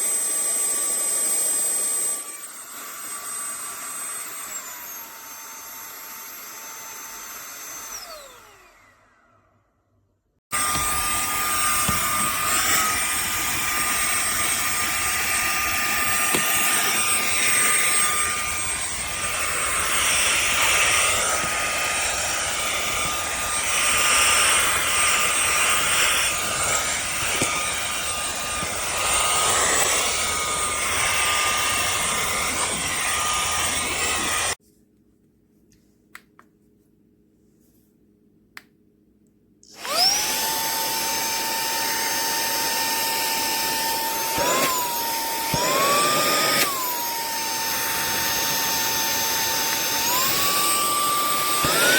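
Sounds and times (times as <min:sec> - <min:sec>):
handheld vacuum motor whining: 0:00.0 - 0:09.6, 0:10.5 - 0:34.6, 0:39.6 - 0:51.9.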